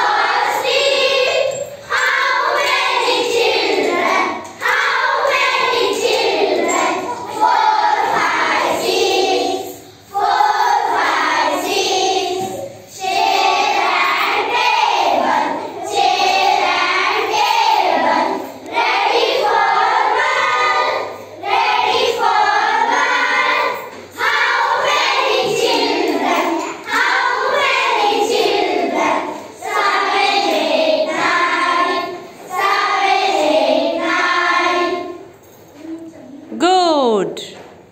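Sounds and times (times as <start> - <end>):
children singing in unison: 0.0 - 35.3.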